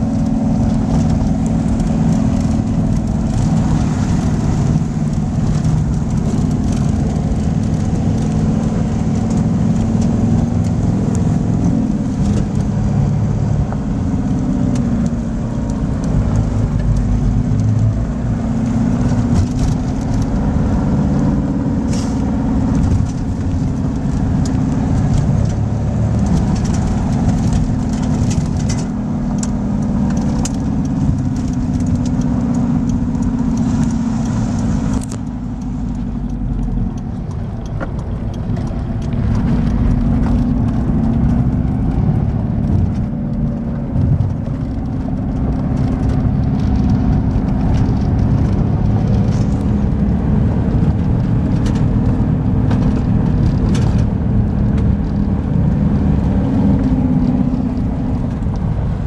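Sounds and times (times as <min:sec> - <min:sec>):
diesel engine revving high: 0:00.0 - 0:59.0.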